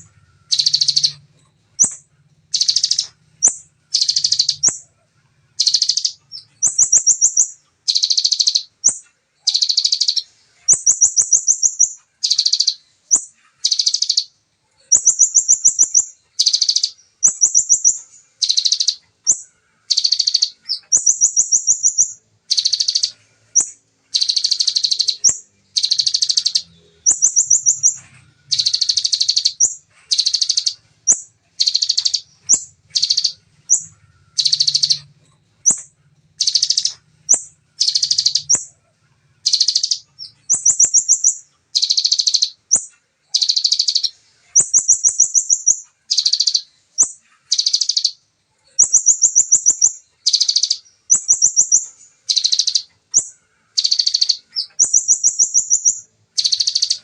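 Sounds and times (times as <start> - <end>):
bird singing buzzy bursts: 0.0 - 4.8, 5.6 - 14.3, 14.9 - 38.8, 39.4 - 57.0.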